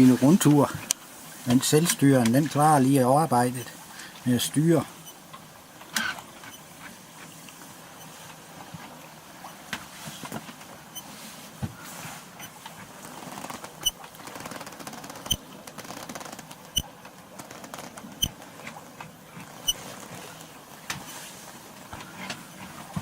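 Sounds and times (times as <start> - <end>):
boat creaks and rattles: 0.0 - 23.0.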